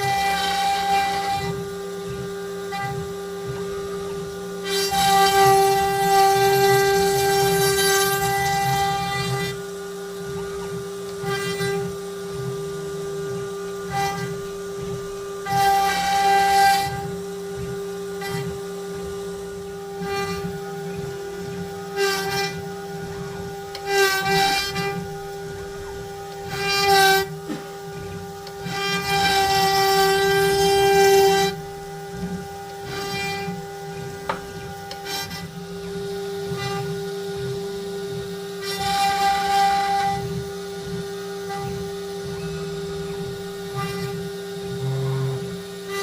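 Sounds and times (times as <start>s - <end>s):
router spindle whining carving wood: 0.0s - 46.0s.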